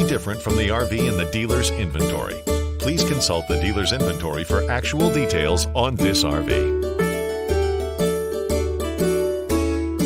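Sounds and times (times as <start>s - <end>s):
light melodic background music: 0.0s - 10.0s.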